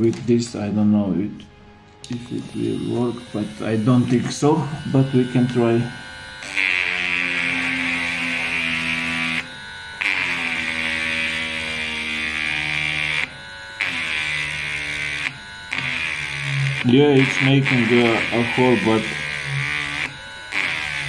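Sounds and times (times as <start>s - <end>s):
drill bit grinding hiss: 1.4s - 21.0s
rotary tool motor whine: 1.7s - 21.0s.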